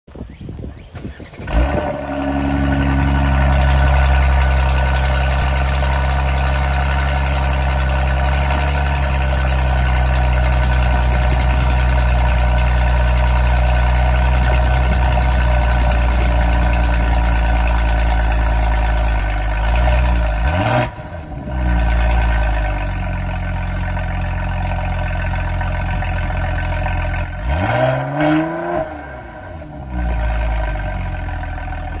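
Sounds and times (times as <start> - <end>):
car engine revving: 1.4 - 32.0
car engine idling: 1.5 - 32.0.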